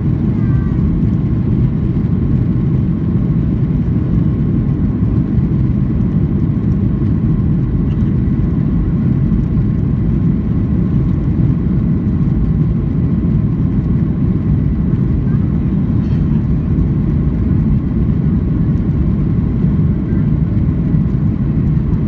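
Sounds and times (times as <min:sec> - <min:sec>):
airplane cabin rolling rumble: 0:00.0 - 0:22.0
jet engine whine: 0:00.0 - 0:22.0.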